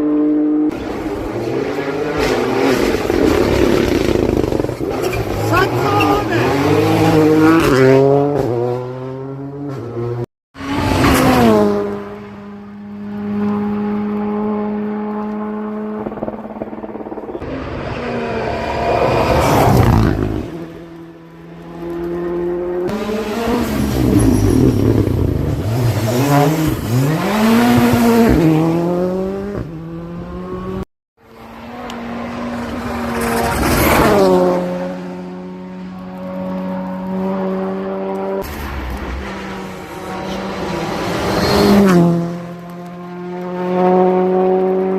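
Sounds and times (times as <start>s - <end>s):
rally car engines revving past: 0.0s - 44.9s.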